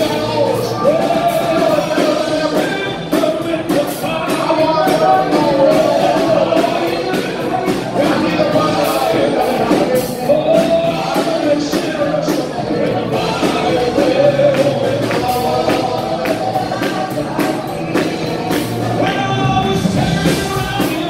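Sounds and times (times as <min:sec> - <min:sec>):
drum kit beat: 0:00.0 - 0:21.0
keyboard: 0:00.0 - 0:21.0
voices singing: 0:00.0 - 0:21.0.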